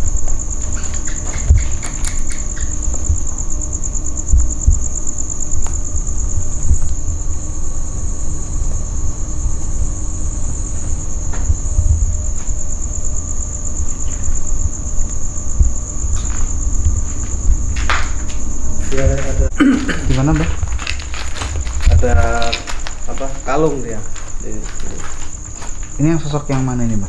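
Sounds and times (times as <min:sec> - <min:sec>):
crickets trilling: 0:00.0 - 0:27.0
low microphone rumble: 0:02.8 - 0:25.0.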